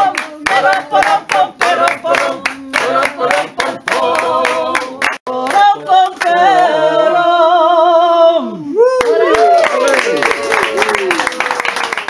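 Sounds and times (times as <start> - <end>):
audience clapping along: 0.0 - 6.7, 9.0 - 12.0.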